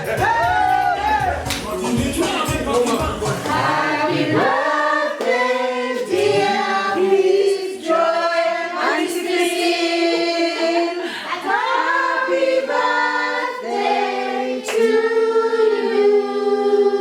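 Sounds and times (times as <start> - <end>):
group singing in harmony: 0.0 - 17.0.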